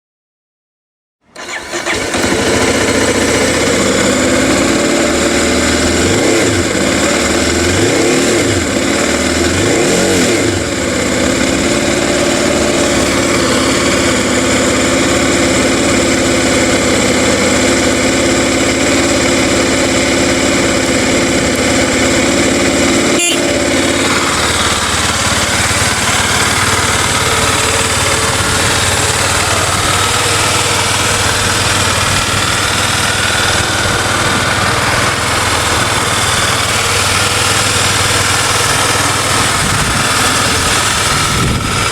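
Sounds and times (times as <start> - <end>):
engine running: 1.2 - 41.9.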